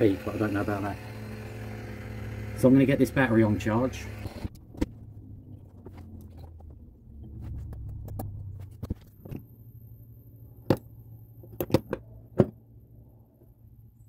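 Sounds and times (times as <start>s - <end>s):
low steady hum: 0.9s - 14.0s.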